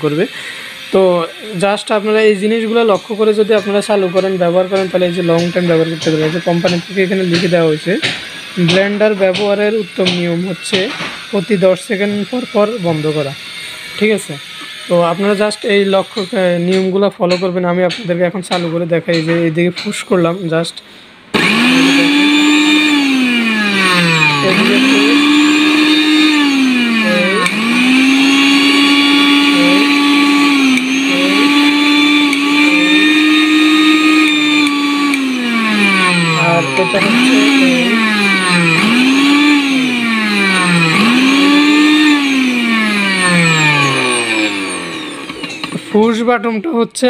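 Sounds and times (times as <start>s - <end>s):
blender motor whine: 0.0s - 16.7s, 21.3s - 46.4s.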